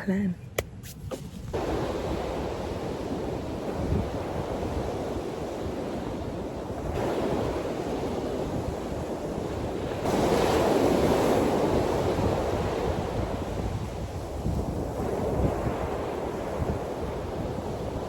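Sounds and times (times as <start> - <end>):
wind on microphone: 0.5 - 18.0
waves washing in: 1.5 - 18.0.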